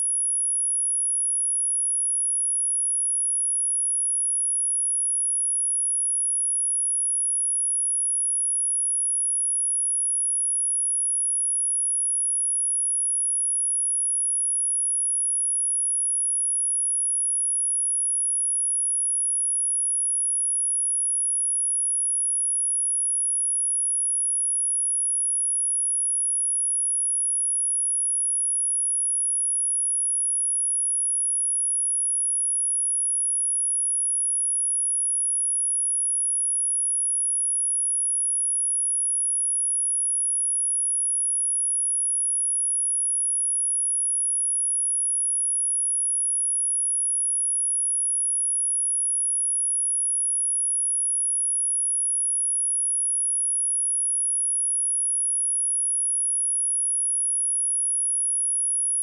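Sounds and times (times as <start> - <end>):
high-pitched sine test tone: 0.0 - 2.0, 11.6 - 59.0.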